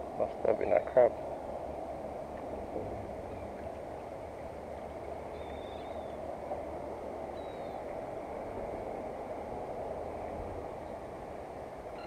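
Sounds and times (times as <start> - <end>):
continuous hiss: 0.0 - 12.0.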